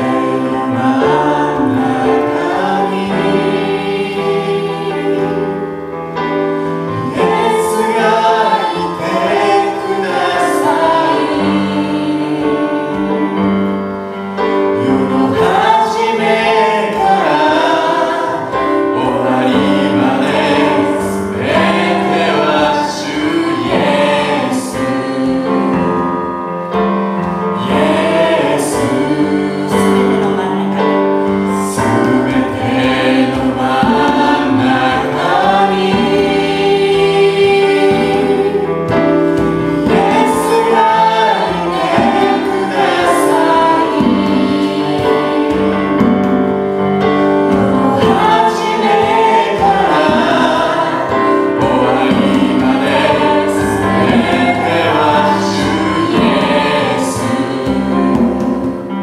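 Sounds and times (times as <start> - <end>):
choir singing gospel song: 0.0 - 59.0
live band playing: 0.0 - 59.0.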